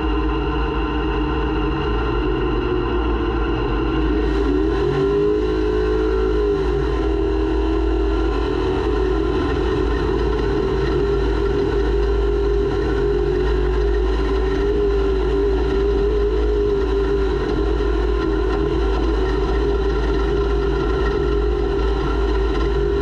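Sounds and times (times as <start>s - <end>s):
heavy low rumble: 0.0s - 23.0s
race vehicle engine running hard: 0.0s - 23.0s.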